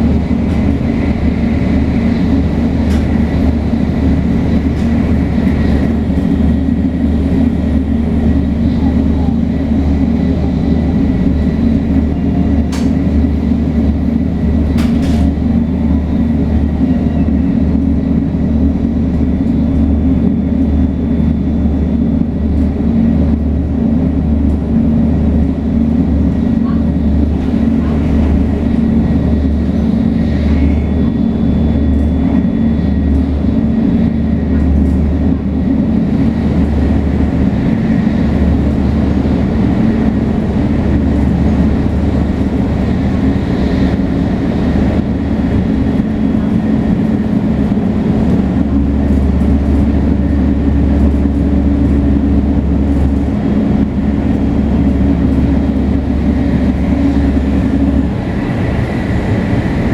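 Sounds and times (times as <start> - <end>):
train deep rumble: 0.0 - 59.9.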